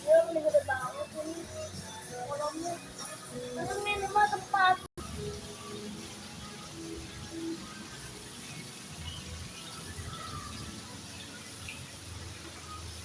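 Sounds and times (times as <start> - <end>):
faint music: 0.0 - 13.0
outdoor background noise: 0.0 - 13.0.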